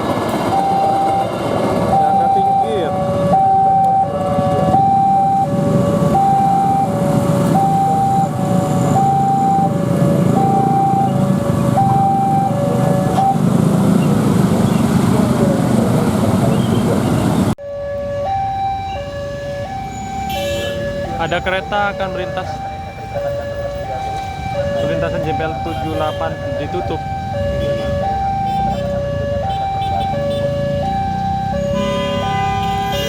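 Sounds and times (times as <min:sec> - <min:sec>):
level-crossing alarm two-tone siren: 0:00.4 - 0:13.5, 0:17.6 - 0:33.0.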